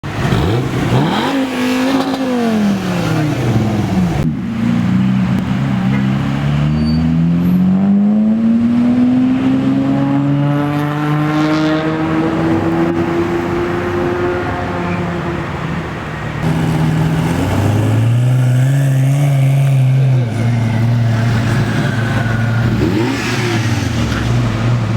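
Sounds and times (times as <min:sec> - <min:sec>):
car engine revving: 0:00.0 - 0:15.6, 0:16.4 - 0:24.9.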